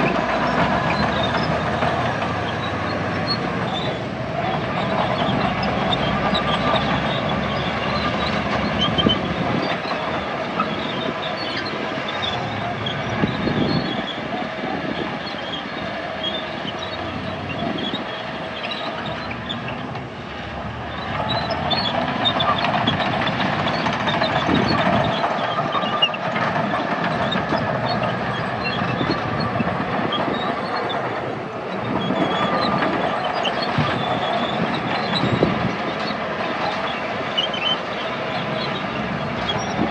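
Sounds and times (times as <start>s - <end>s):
diesel machinery engine under load: 0.0s - 39.9s
high squeaks and clicks: 0.0s - 39.9s.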